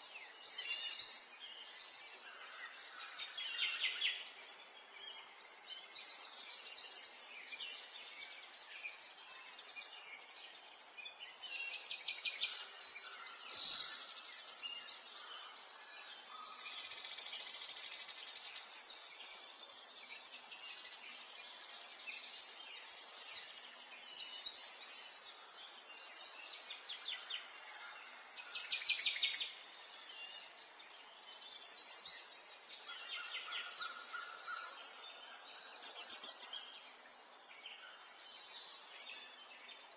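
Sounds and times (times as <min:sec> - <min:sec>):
birds singing and chirping: 0:00.0 - 0:39.9
faint outdoor hiss: 0:00.0 - 0:39.9.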